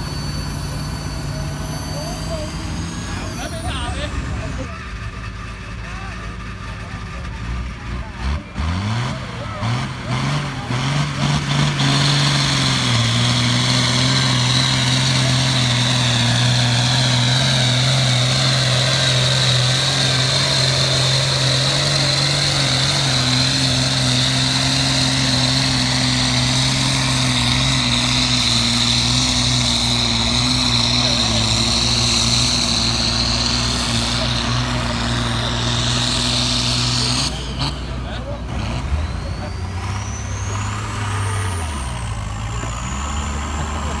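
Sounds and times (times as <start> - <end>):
tractor engine at full throttle: 0.0 - 44.0.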